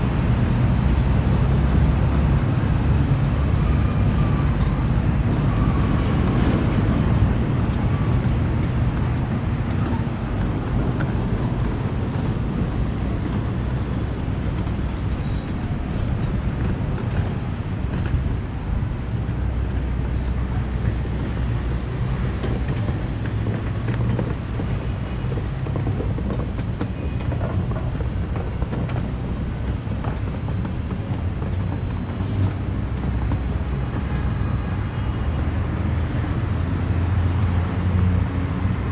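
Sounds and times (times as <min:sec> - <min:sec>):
low rumble of city ambience: 0:00.0 - 0:38.9.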